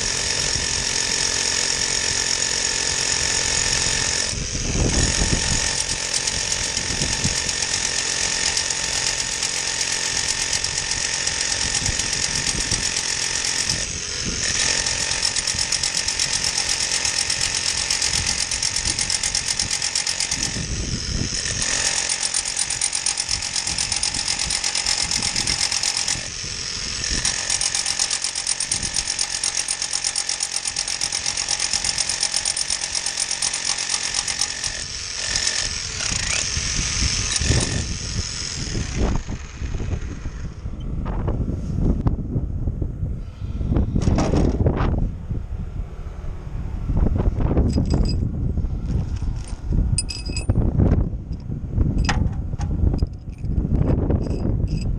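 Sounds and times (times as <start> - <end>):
hammer drill boring into concrete: 0.0 - 40.6, 47.6 - 48.2, 49.2 - 50.6, 52.0 - 54.9.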